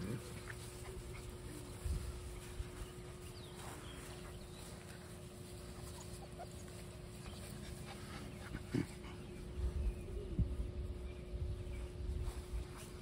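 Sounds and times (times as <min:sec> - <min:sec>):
puppies whimpering and yipping: 0:00.0 - 0:11.1.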